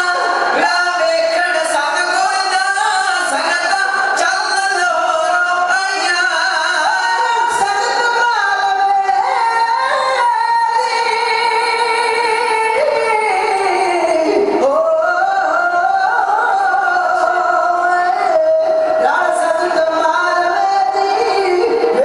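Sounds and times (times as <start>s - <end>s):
men singing through microphones: 0.0s - 22.0s.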